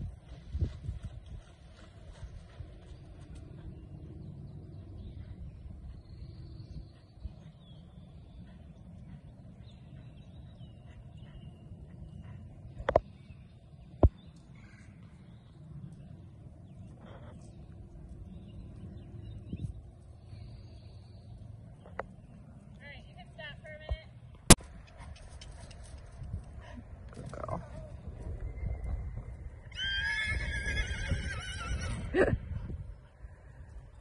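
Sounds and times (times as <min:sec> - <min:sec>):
low steady rumble: 0:00.0 - 0:34.0
songbirds chirping: 0:00.0 - 0:34.0.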